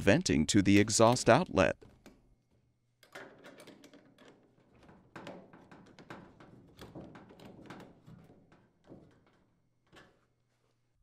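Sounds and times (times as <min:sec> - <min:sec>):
screwdriver clicks and metallic knocks: 0:00.7 - 0:10.3.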